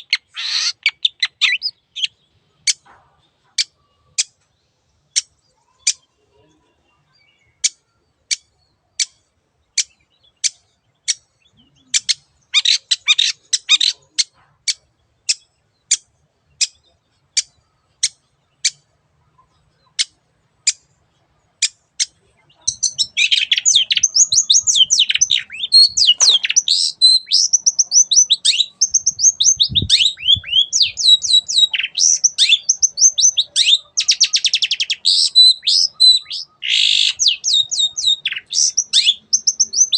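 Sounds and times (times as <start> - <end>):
bird sharp calls: 0.0 - 4.4, 5.1 - 39.9
bird chattering song: 0.0 - 39.9.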